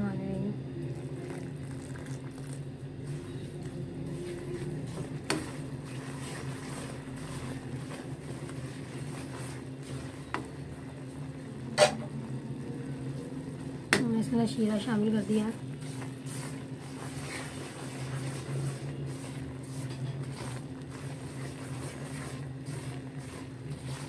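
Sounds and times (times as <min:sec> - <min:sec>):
steady low hum: 0:00.0 - 0:24.0
syrup sizzling and bubbling: 0:00.8 - 0:24.0.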